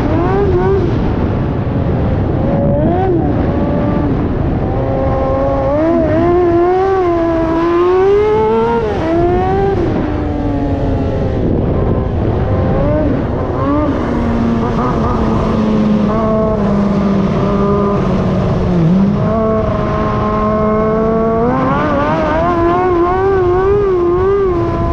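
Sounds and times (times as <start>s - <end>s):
quad engine revving: 2.5s - 24.9s.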